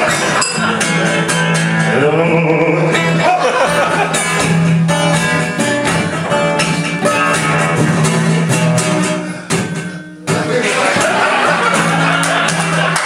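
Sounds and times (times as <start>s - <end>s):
blues guitar playing: 0.0s - 13.0s.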